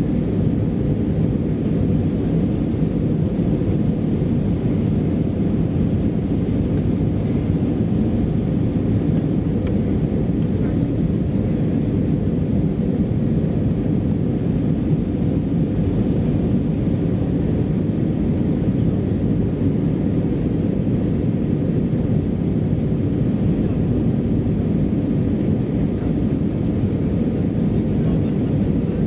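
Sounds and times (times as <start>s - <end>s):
airplane cabin noise: 0.0s - 29.0s.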